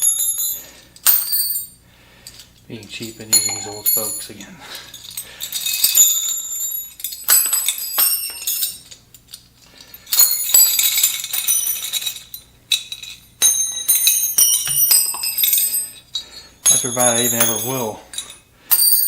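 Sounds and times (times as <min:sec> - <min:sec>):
metal spokes clinking and jangling: 0:00.0 - 0:19.0.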